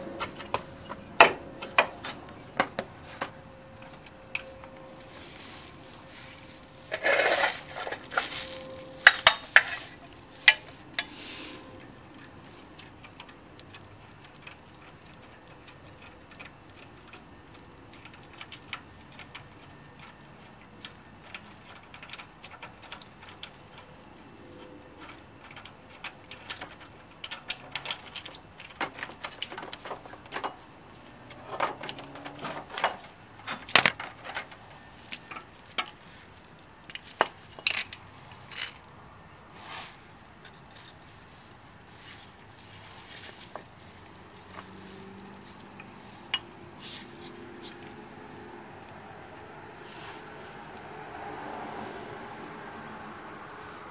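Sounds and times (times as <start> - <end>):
metal tools clinking on engine: 0.0 - 39.4, 40.0 - 53.9.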